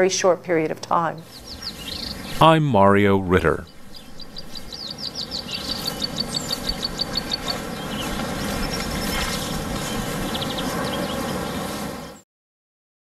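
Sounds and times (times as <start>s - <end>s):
steady hiss-like background: 0.0s - 12.2s
bird chirping: 1.1s - 12.2s.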